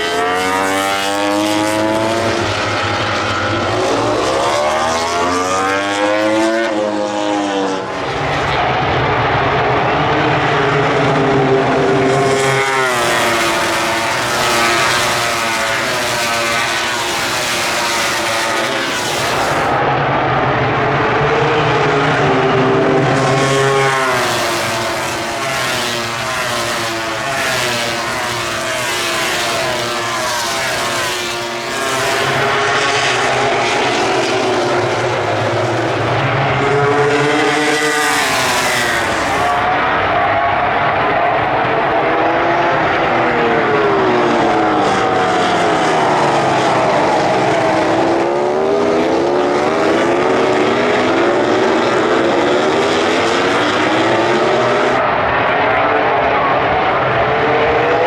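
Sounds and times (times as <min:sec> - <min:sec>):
racing motorcycles passing: 0:00.0 - 0:58.0.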